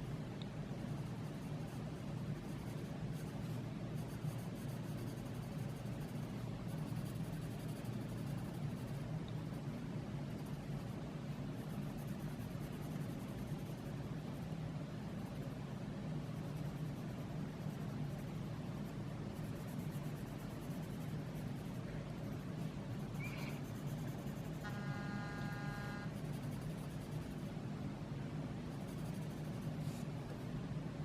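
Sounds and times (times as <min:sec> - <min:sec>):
low background hum: 0:00.0 - 0:31.0.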